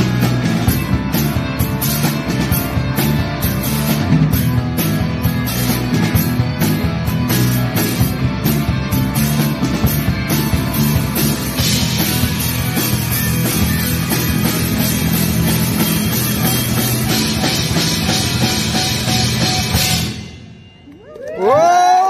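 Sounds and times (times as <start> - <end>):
rock band playing: 0.0 - 21.7.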